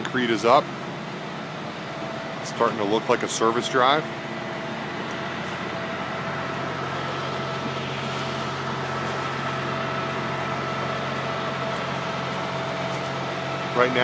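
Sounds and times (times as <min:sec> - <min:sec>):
machine engine humming: 0:00.0 - 0:14.0.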